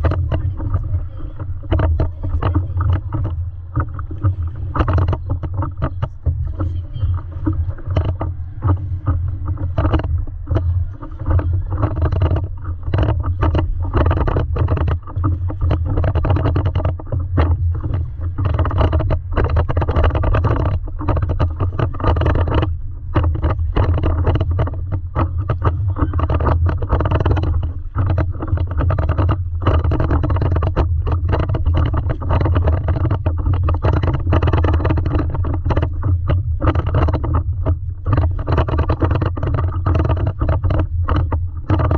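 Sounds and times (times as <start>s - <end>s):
low rumble: 0.0s - 41.9s
water slapping against paddleboard: 0.0s - 41.9s.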